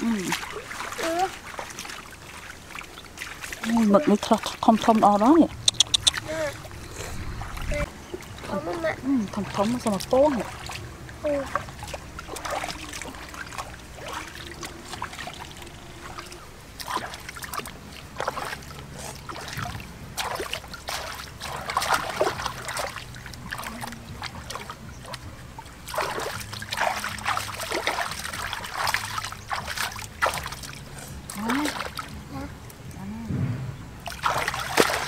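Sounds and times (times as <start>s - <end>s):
hands splashing in water: 0.0s - 6.6s, 9.5s - 32.1s, 34.0s - 35.0s.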